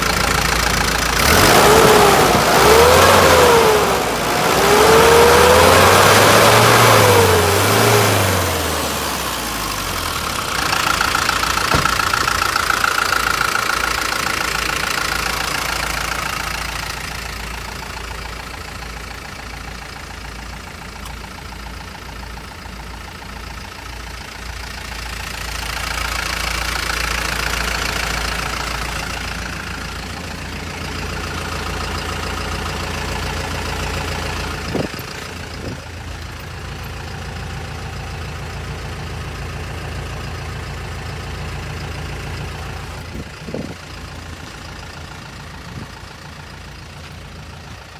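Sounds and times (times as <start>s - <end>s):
diesel truck engine revving and idling: 0.0s - 47.9s.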